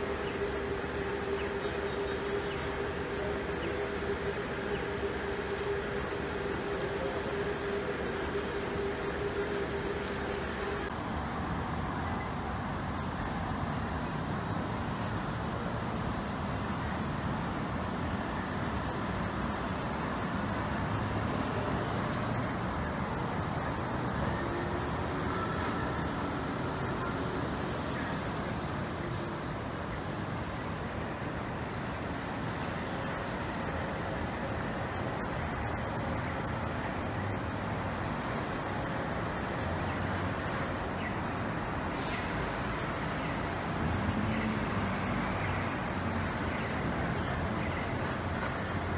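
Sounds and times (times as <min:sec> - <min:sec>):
street traffic: 0:00.0 - 0:48.9.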